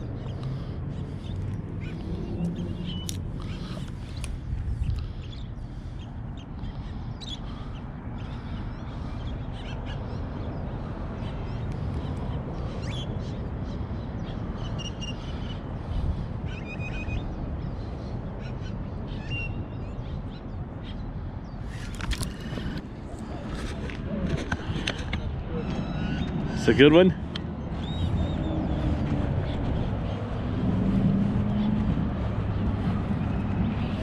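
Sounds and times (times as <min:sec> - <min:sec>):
birds chirping and squawking: 0:00.0 - 0:34.0
steady low rumble: 0:00.0 - 0:34.0.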